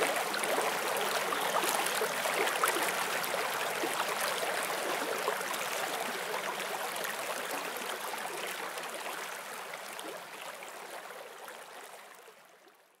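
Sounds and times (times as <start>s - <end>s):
stream babbling: 0.0s - 11.8s.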